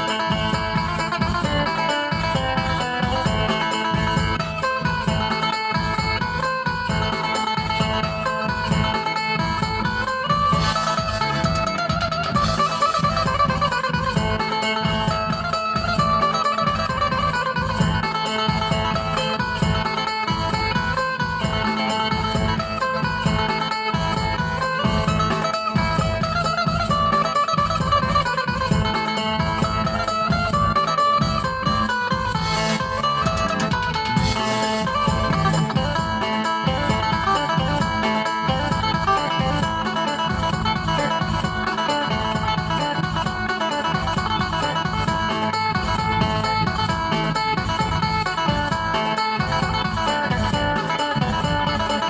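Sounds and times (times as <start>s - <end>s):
plucked lute melody: 0.0s - 52.0s
pulsing bass beat: 0.0s - 52.0s.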